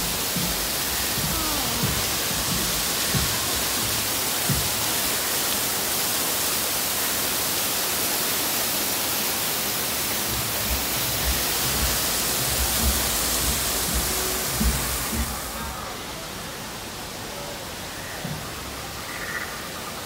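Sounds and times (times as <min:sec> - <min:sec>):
waterfall rushing and splashing: 0:00.0 - 0:20.0.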